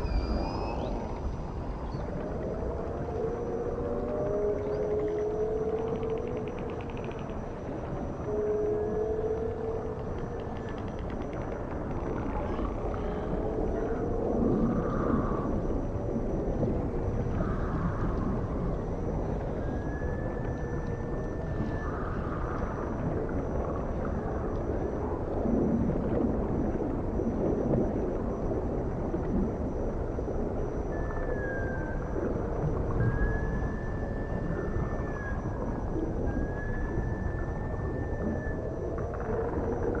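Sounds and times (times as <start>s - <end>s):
whale whistles: 0.0s - 25.8s, 26.6s - 40.0s
gliding whale calls: 0.0s - 40.0s
underwater rumble: 0.0s - 40.0s.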